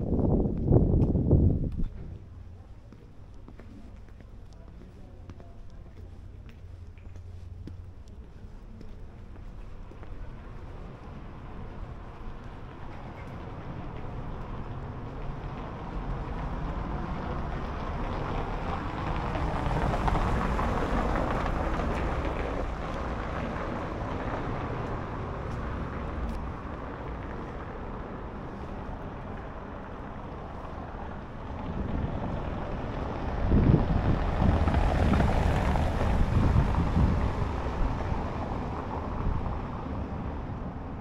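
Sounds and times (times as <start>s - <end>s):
wind rumbling on microphone: 0.0s - 41.0s
passing vehicle: 5.7s - 41.0s.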